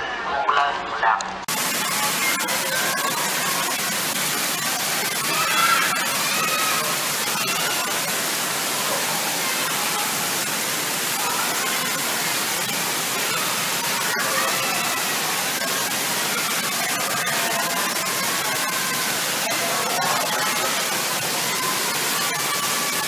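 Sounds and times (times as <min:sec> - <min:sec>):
faint voices: 0:00.0 - 0:23.0
fountain water hissing: 0:01.5 - 0:23.0.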